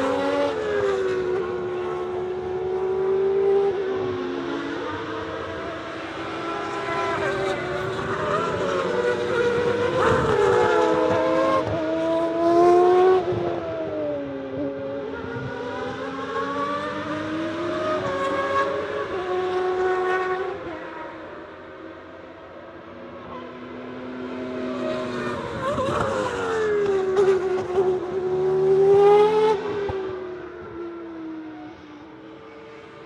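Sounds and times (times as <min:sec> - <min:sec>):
racing cars at high revs: 0:00.0 - 0:33.0.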